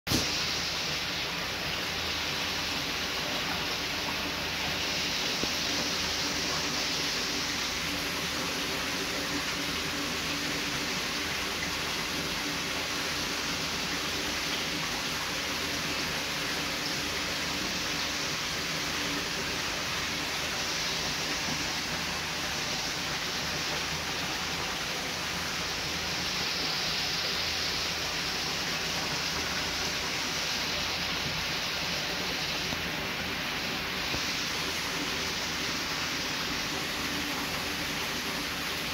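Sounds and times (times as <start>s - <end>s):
running water hiss: 0.1s - 38.9s.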